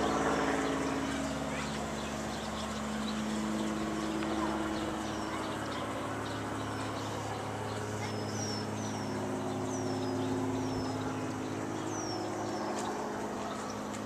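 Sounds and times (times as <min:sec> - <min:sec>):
bird chirps: 0:00.0 - 0:14.0
steady low hum: 0:00.0 - 0:14.0.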